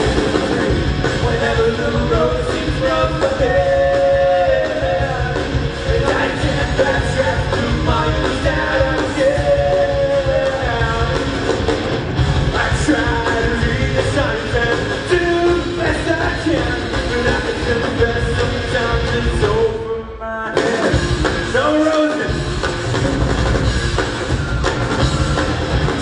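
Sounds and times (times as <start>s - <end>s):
person singing: 0.0s - 11.3s, 12.5s - 22.4s
drum kit: 0.0s - 19.9s, 20.5s - 26.0s
electric guitars: 0.0s - 26.0s.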